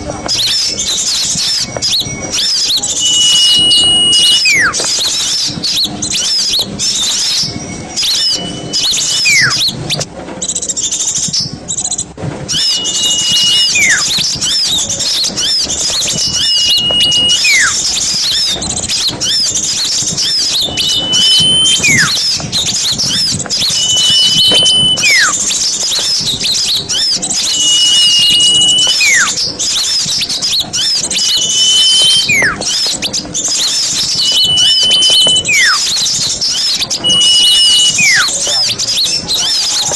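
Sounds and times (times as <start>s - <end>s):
whistle call slurring down: 0.0s - 10.0s, 12.5s - 39.9s
birds twittering chorus: 0.0s - 39.9s.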